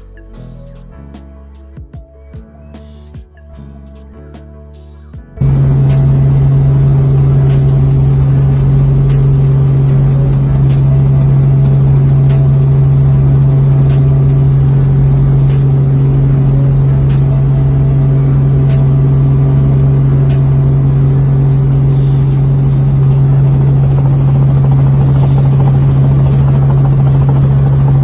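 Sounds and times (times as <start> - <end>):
helicopter engine and rotors droning: 5.4 - 28.0.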